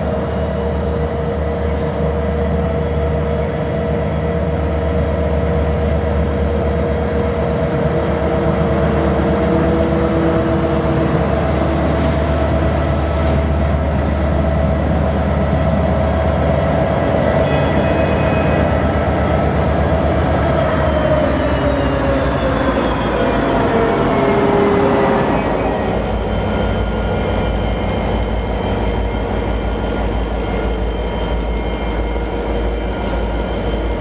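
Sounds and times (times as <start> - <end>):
diesel locomotive engine rumble: 0.0 - 34.0
locomotive whining tones: 0.0 - 34.0.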